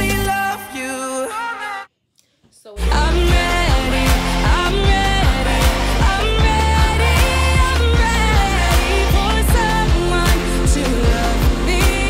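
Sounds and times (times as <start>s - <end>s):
pop song with sung vocal: 0.0s - 12.0s.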